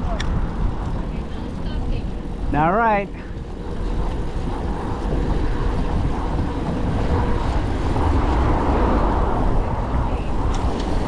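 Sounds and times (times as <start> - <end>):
city traffic: 0.0 - 11.0
low rumble: 0.0 - 11.0
wind on microphone: 0.0 - 11.0.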